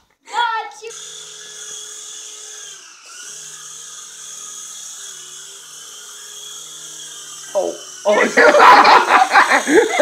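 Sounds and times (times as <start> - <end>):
toy helicopter whirring whine: 0.1 - 10.0.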